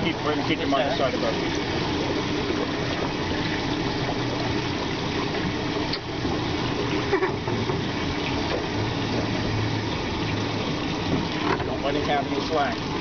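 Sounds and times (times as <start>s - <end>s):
outboard motor idling: 0.0s - 13.0s
water sloshing against boat hull: 0.0s - 13.0s.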